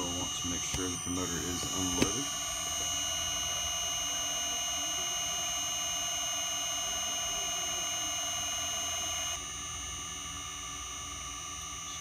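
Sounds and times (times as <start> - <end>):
high-pitched electric motor whine: 0.0 - 12.0.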